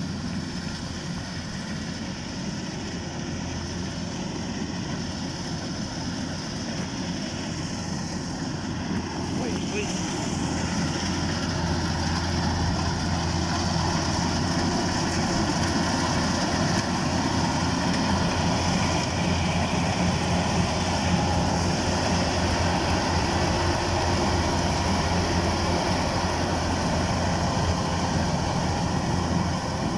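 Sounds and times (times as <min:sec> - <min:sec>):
combine harvester engine drone: 0:00.0 - 0:29.9.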